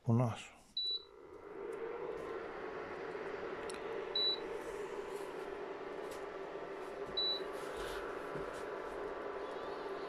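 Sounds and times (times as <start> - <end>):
induction hob fan humming: 0.7 - 10.0.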